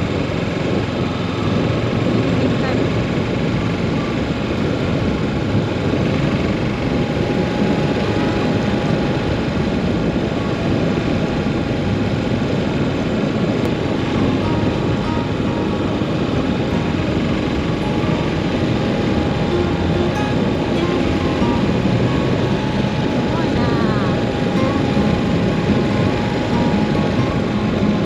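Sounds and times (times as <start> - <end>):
wind rush: 0.0 - 28.0.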